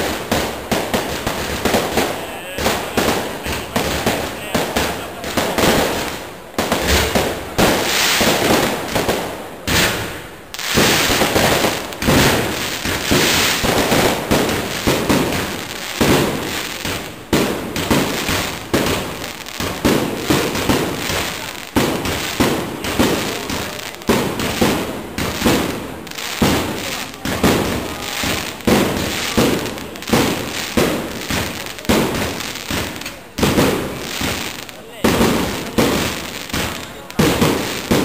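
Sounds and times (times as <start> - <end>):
fireworks shells bursting: 0.0 - 38.0.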